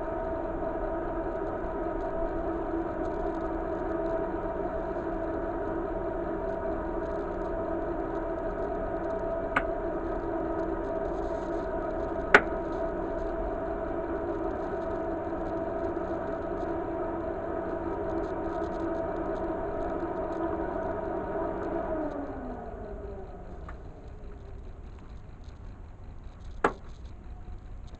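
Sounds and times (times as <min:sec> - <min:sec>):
machine hum with a whine: 0:00.0 - 0:27.9.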